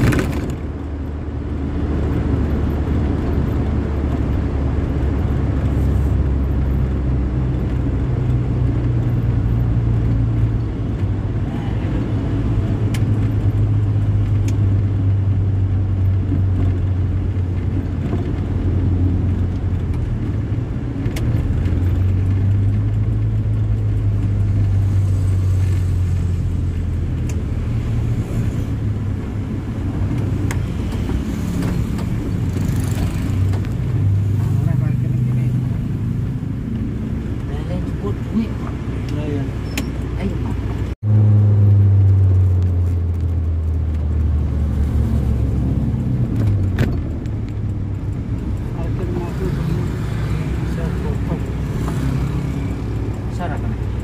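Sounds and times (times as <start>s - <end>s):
road rumble: 0.0s - 54.0s
vehicle engine droning: 0.0s - 54.0s.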